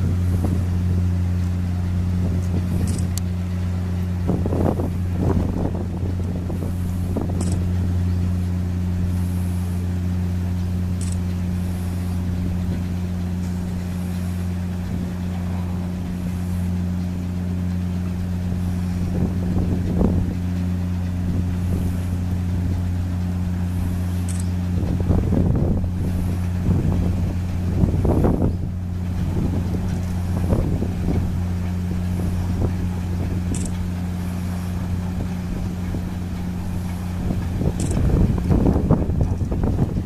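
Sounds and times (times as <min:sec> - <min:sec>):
ship engine droning: 0:00.0 - 0:40.0.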